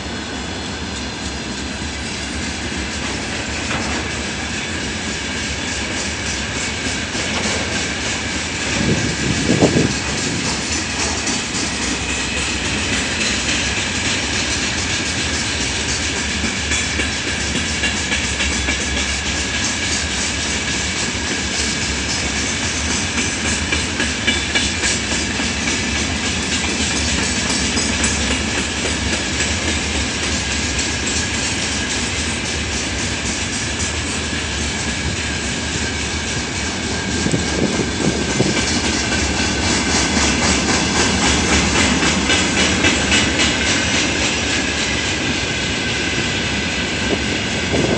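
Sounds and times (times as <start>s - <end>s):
high ringing from wheels on rail: 0.0s - 47.9s
train wheels clattering over rail joints: 0.8s - 47.9s.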